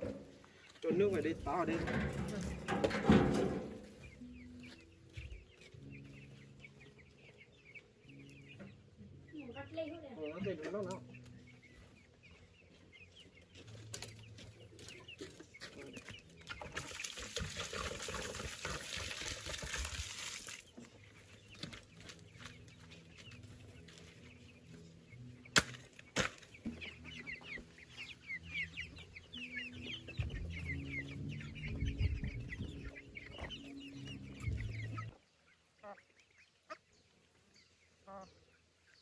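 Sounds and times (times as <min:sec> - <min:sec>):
chickens clucking: 0:00.0 - 0:19.7, 0:20.3 - 0:37.4.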